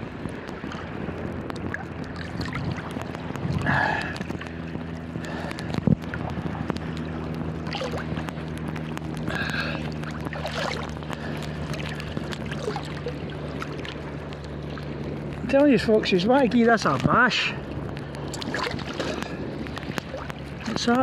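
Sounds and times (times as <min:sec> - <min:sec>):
seawater sloshing and splashing: 0:00.0 - 0:21.0
steady low hum: 0:00.0 - 0:21.0.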